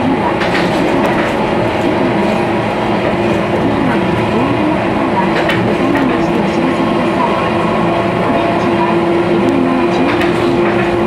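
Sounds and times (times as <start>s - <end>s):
tram running hum: 0.0s - 11.0s.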